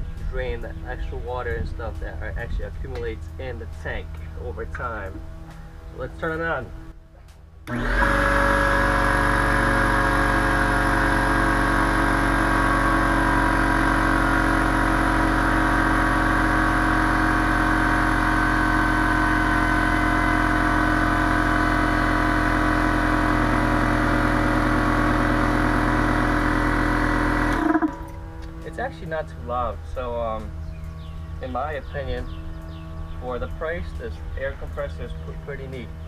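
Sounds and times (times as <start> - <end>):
air compressor motor humming: 0.0 - 36.0.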